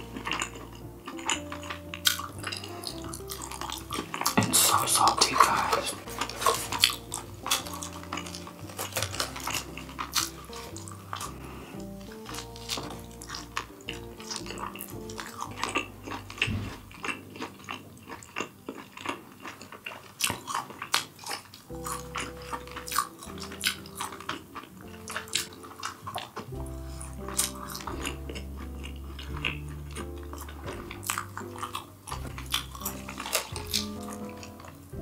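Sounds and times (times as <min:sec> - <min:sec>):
background music with low bass: 0:00.0 - 0:19.4, 0:21.2 - 0:35.0.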